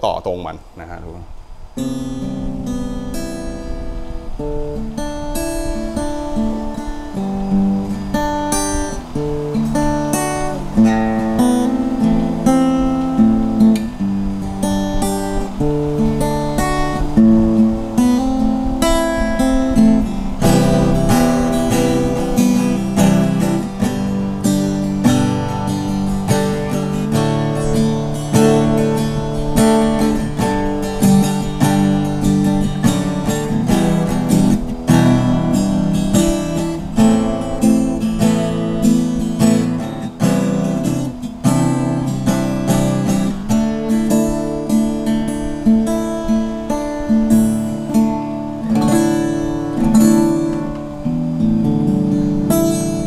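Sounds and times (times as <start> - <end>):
acoustic guitar strumming chords: 0.0 - 53.0.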